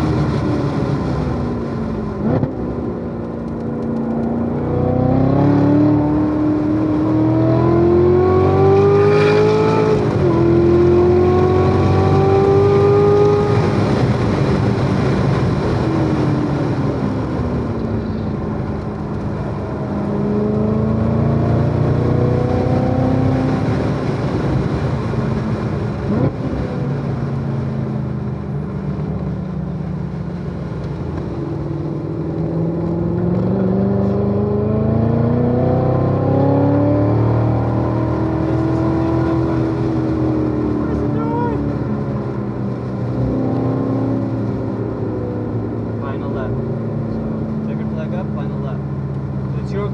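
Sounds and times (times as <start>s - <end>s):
sports car engine accelerating: 0.0s - 49.9s.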